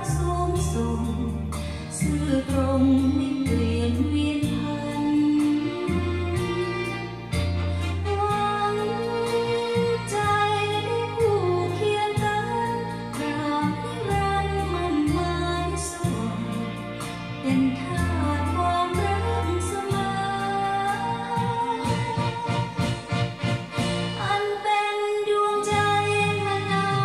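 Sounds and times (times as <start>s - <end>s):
bass line: 0.0s - 24.5s, 25.7s - 27.0s
music with singing through speakers: 0.0s - 27.0s.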